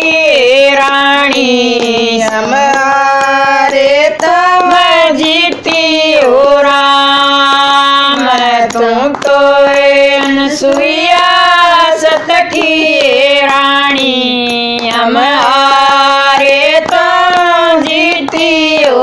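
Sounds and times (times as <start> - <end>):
hand claps: 0.0 - 19.0
women singing together: 0.0 - 19.0.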